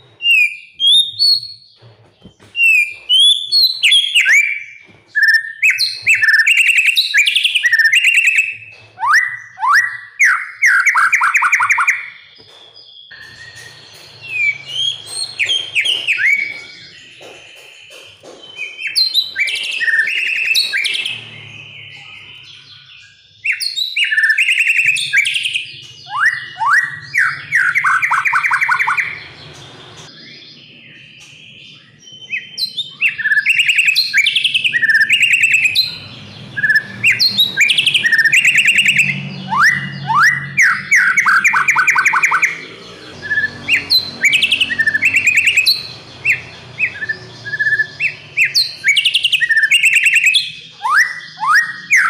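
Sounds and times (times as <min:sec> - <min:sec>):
bird singing varied song: 0:00.0 - 0:52.0.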